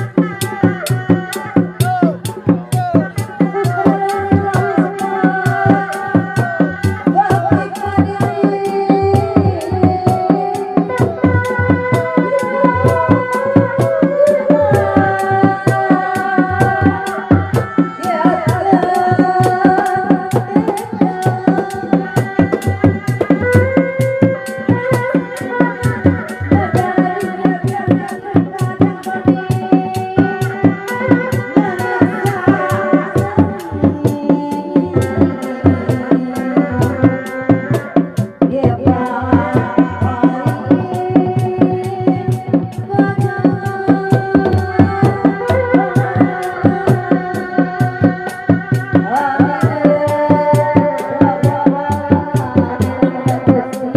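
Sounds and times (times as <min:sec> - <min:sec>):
drums beating fast rhythm: 0:00.0 - 0:53.9.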